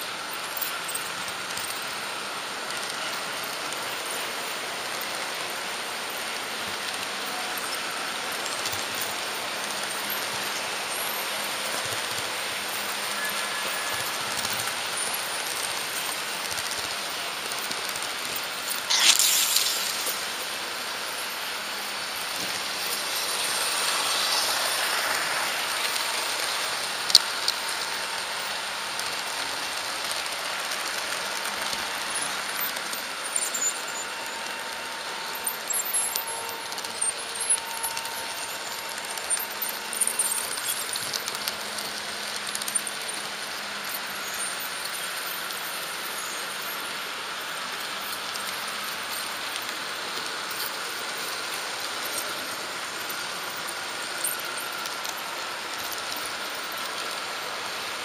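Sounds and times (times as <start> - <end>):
model train rolling hiss and whir: 0.0 - 58.0.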